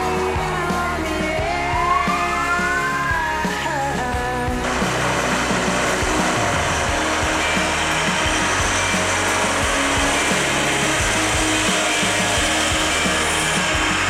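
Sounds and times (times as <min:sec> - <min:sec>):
dense background music: 0:00.0 - 0:14.0
low stepping bass line: 0:00.0 - 0:14.0.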